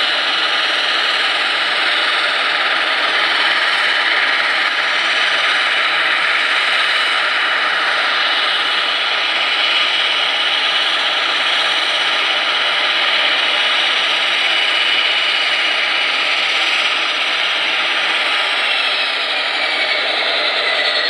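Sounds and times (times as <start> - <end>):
high turbine whine: 0.0 - 21.0
turboprop engine running: 0.0 - 21.0.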